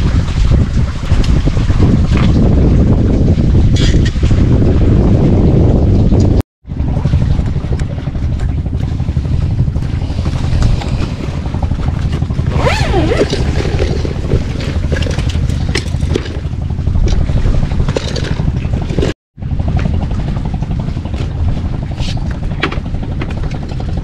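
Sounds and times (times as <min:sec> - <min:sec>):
boat engine rumbling: 0:00.0 - 0:24.0
wind over microphone: 0:00.0 - 0:24.0.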